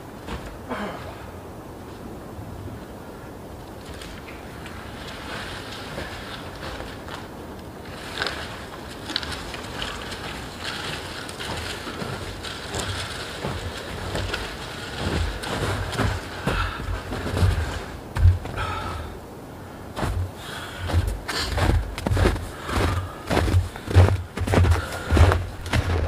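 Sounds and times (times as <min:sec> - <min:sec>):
footsteps crunching through snow: 0:03.8 - 0:19.0, 0:19.9 - 0:26.0.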